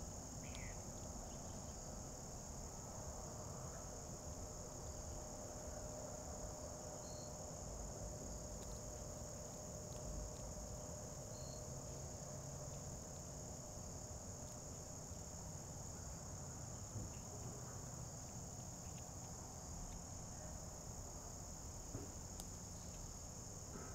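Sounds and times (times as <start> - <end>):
high-pitched insect chorus: 0.0 - 23.9
low background hum: 0.0 - 23.9.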